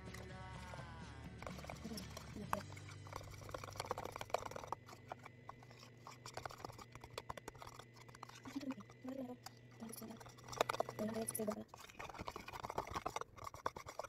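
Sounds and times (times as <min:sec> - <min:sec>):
low steady hum: 0:00.0 - 0:14.0
spatula scraping plastic tub: 0:00.0 - 0:14.0.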